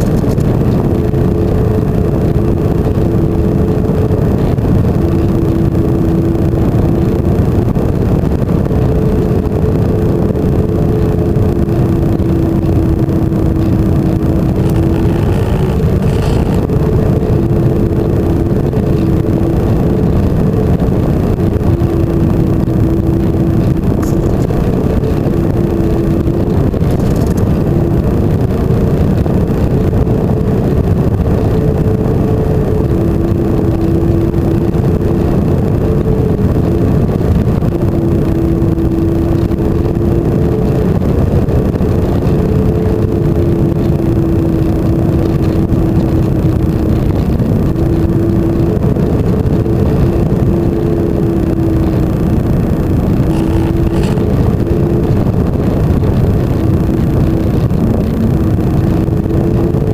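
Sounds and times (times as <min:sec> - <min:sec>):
constant air rush: 0:00.0 - 0:59.9
model plane motor whine: 0:00.0 - 0:59.9.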